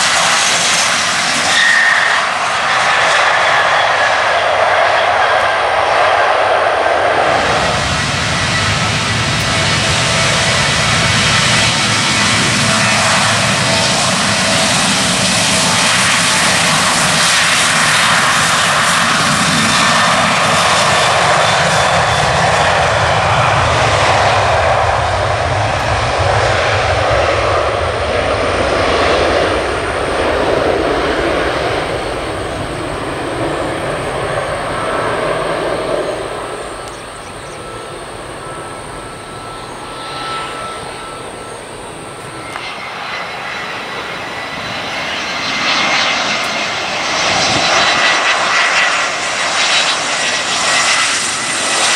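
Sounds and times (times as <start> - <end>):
jet engine whine on approach: 0.0 - 51.9
jet engines roaring at takeoff: 0.0 - 51.9.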